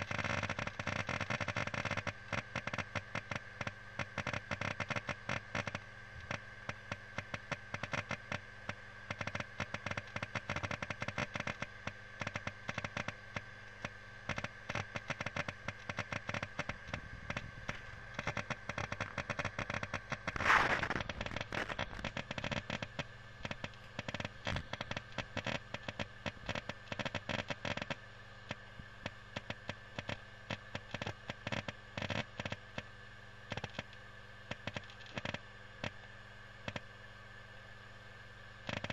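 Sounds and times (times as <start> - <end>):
hard disk clicking: 0.0 - 36.0, 36.6 - 36.9, 38.6 - 38.9.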